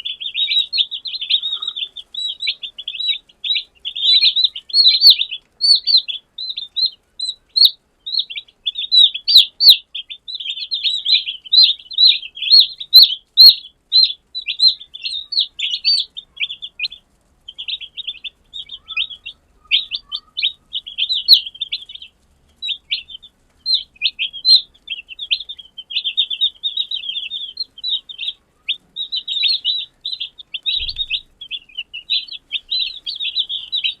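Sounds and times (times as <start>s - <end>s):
chicks peeping: 0.0s - 34.0s.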